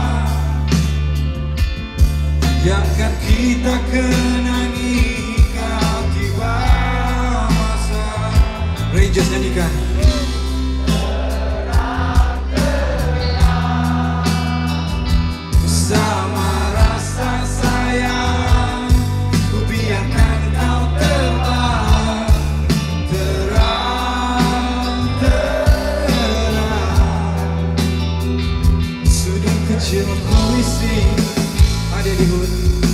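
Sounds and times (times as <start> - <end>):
live rock band playing: 0.0 - 32.9.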